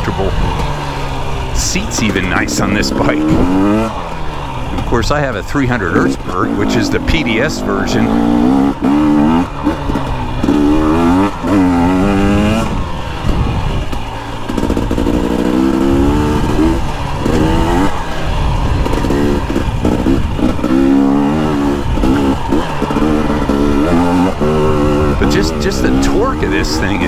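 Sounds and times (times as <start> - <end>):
two-stroke motorcycle engine revving: 0.0 - 27.0.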